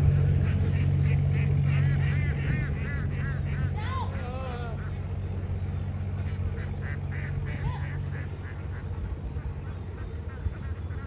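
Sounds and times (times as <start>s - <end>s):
ducks quacking: 0.0s - 11.0s
low engine hum: 0.0s - 11.0s.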